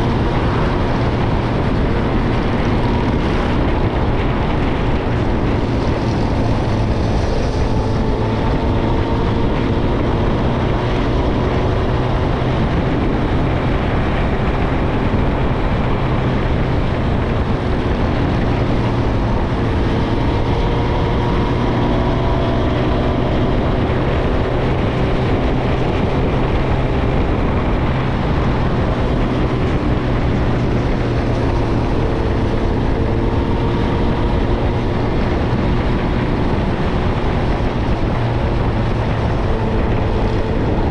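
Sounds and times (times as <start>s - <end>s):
motorcycle engine cruising: 0.0s - 40.9s
road noise: 0.0s - 40.9s
wind noise: 0.0s - 40.9s.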